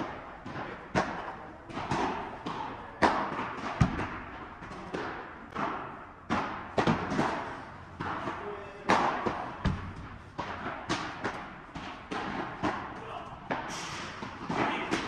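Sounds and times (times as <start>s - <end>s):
ball bouncing on court: 0.0s - 15.0s
rackets striking ball: 0.0s - 15.0s.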